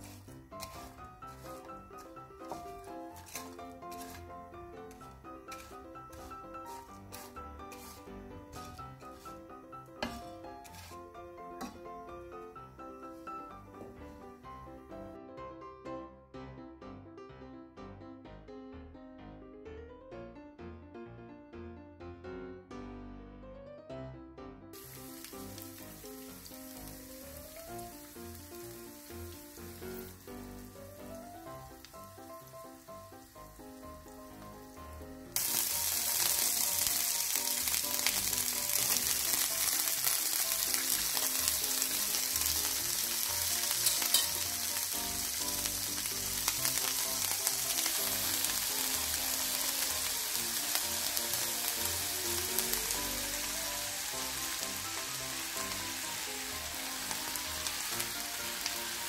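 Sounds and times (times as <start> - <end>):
vegetables sizzling in hot oil: 0.0 - 13.8, 24.8 - 59.0
background music with simple melody: 0.0 - 59.0.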